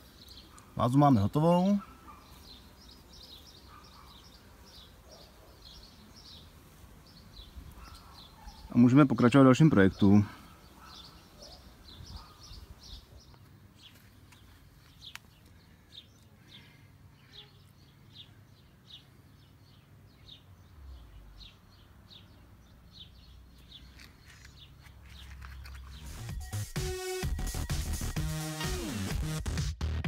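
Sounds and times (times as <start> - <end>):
small bird chirping: 0.0 - 8.8, 9.8 - 26.6.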